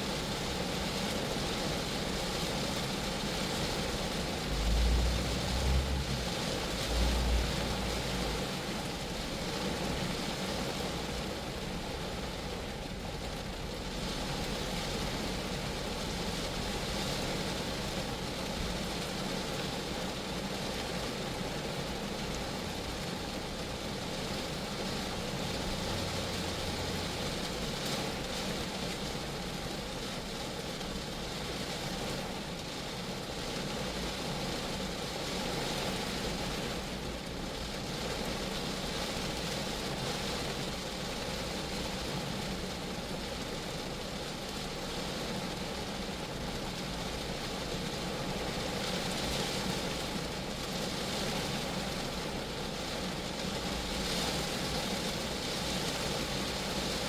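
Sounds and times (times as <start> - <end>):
rain on a car body: 0.0 - 57.0.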